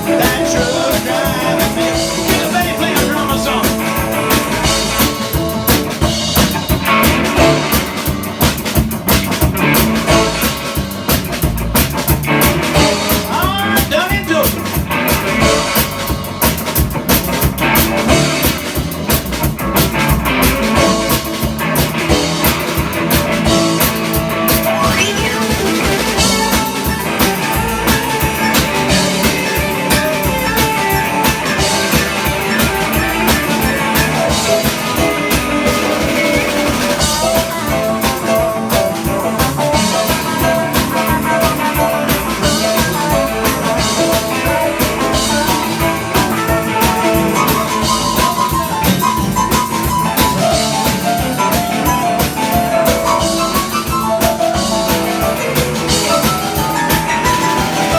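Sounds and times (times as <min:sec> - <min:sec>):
drum kit beat: 0:00.0 - 0:57.9
electric guitar: 0:00.0 - 0:57.9.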